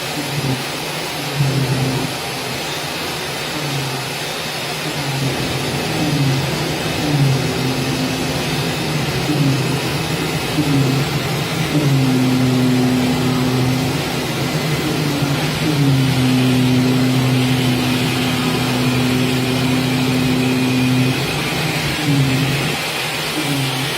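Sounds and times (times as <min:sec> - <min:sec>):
cutting machine hum and hiss: 0:00.0 - 0:23.9
motor tone gliding in pitch: 0:01.3 - 0:02.2, 0:04.8 - 0:23.9.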